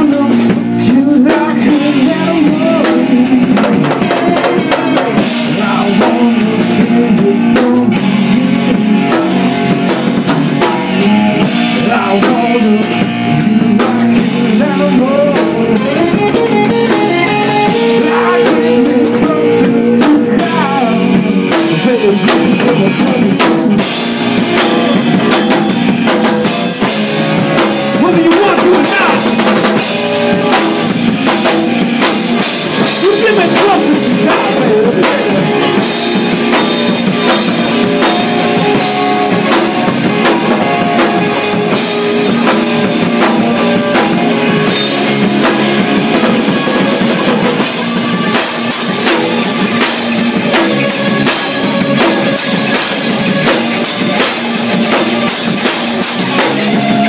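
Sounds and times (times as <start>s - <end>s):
drum kit with cymbals: 0.0s - 57.0s
electric guitars: 0.0s - 57.0s.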